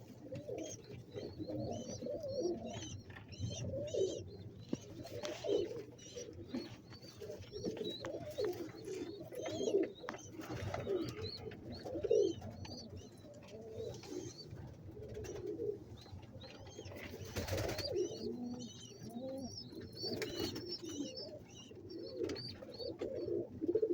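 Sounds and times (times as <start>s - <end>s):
pigeons cooing: 0.0s - 23.9s.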